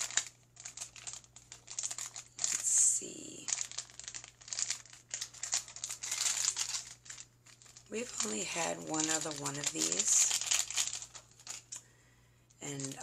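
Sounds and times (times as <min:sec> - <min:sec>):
foil wrapper crinkling: 0:00.0 - 0:11.9, 0:12.7 - 0:13.0.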